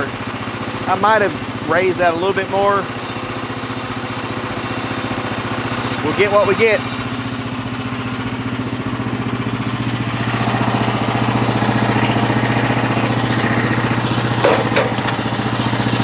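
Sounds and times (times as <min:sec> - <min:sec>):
small gasoline engine idling: 0:00.0 - 0:16.0.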